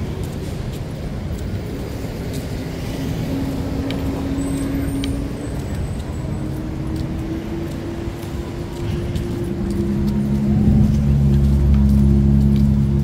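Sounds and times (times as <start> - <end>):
street traffic rumble: 0.0 - 13.0
vehicle engine hum: 0.0 - 13.0.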